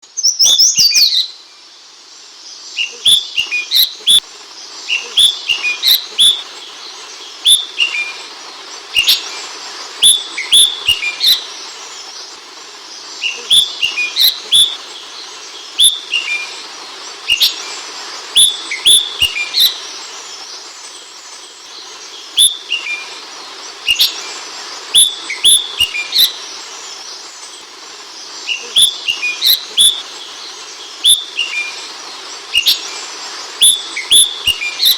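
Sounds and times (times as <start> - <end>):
steady hiss: 0.0 - 34.9.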